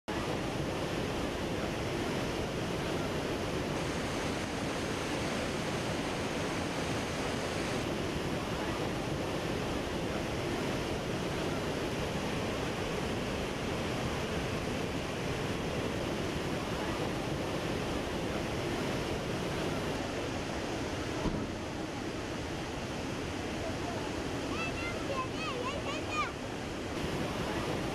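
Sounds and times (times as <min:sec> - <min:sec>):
waterfall rushing: 0:00.1 - 0:27.9.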